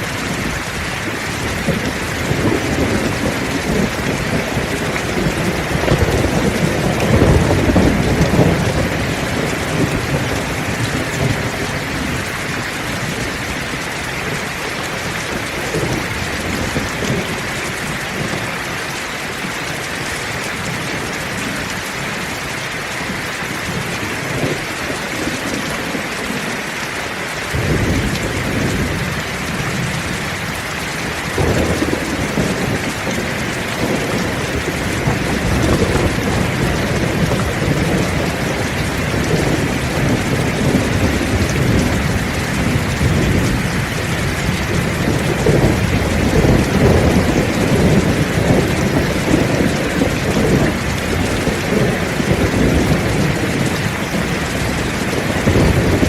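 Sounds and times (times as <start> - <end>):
thunder rolling: 0.0 - 18.4, 27.5 - 56.0
heavy rain pouring: 0.0 - 56.0.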